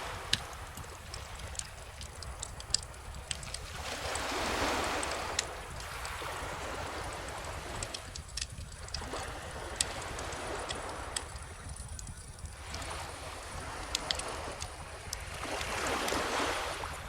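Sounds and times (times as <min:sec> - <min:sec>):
bonfire crackling and popping: 0:00.0 - 0:16.4
ocean waves washing ashore: 0:00.0 - 0:17.0.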